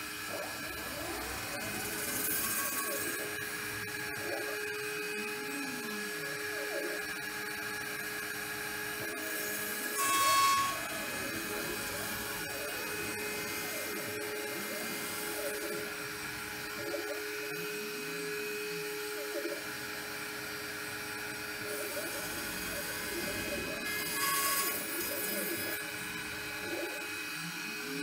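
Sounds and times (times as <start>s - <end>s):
motors whining in gliding pitch: 0.0s - 28.0s.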